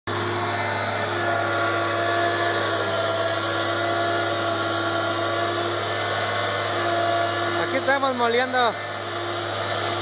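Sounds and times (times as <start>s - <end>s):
chopper mill grinding: 0.1s - 10.0s
tractor engine drone: 0.1s - 10.0s.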